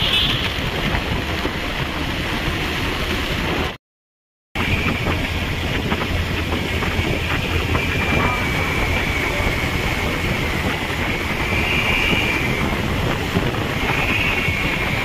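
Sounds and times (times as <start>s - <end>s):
vehicle road noise: 0.0s - 3.8s, 4.6s - 15.0s
wind rushing over microphone: 0.0s - 3.8s, 4.6s - 15.0s.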